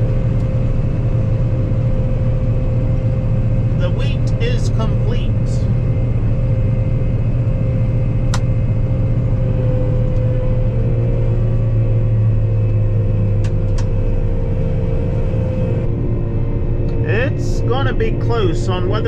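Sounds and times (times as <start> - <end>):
combine harvester engine drone: 0.0 - 19.0
steady machine whine: 0.0 - 19.0.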